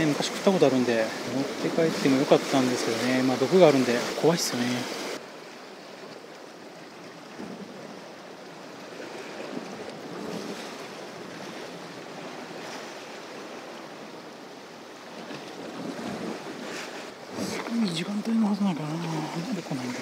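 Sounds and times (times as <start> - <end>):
waves washing against rocks: 0.0 - 5.3, 8.5 - 20.0.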